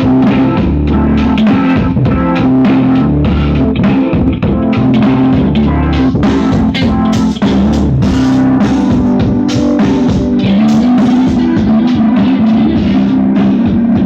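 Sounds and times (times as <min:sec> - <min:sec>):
loud music with heavy bass: 0:00.0 - 0:14.0.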